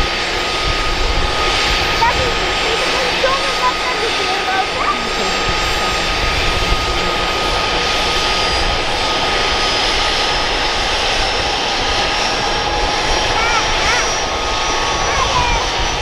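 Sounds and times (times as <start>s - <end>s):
helicopter turbine roar: 0.0s - 16.0s
high turbine whine: 0.0s - 16.0s.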